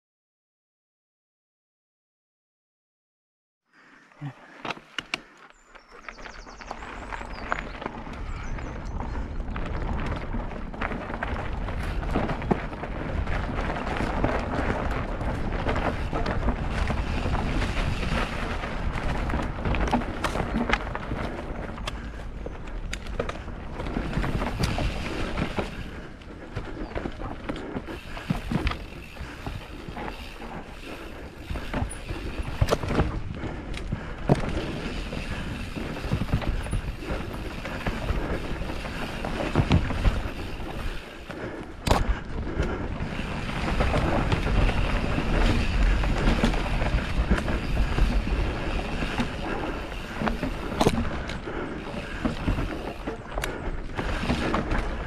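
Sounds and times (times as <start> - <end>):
bike tyres on gravel: 3.8 - 55.0
bike rattling over bumps: 4.2 - 55.0
wind buffeting microphone: 6.7 - 55.0.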